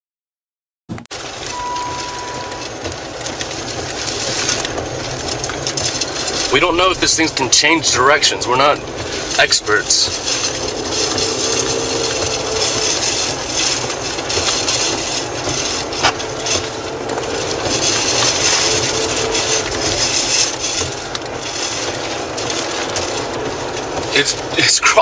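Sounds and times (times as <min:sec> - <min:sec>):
tyres on wet road: 0:01.0 - 0:25.0
wind and rain against car: 0:01.1 - 0:25.0.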